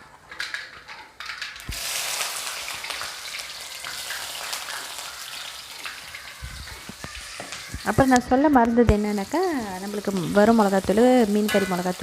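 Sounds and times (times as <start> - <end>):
onion sizzling in hot oil: 1.3 - 12.0.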